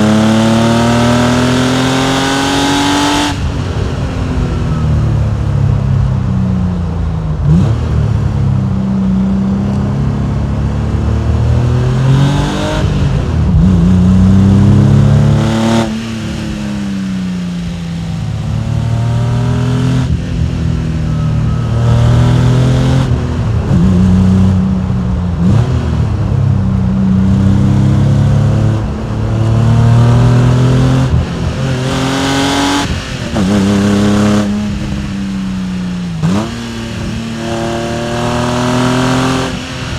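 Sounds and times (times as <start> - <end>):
car engine and exhaust accelerating: 0.0 - 39.9.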